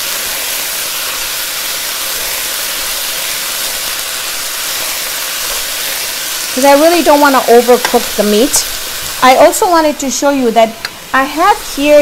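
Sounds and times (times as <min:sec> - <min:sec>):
meat and mushrooms sizzling in oil: 0:00.0 - 0:12.0.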